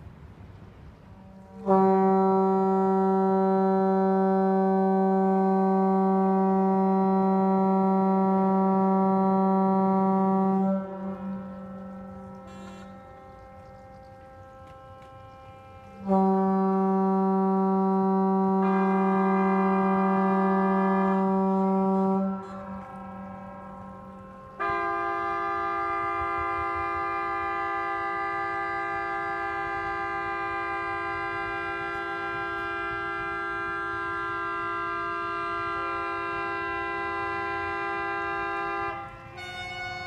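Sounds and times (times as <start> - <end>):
boat horn long blast: 0.0 - 40.0.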